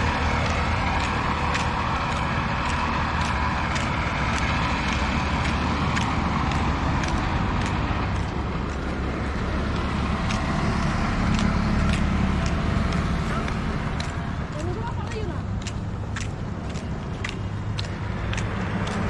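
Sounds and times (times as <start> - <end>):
passing cars rumble: 0.0 - 19.0.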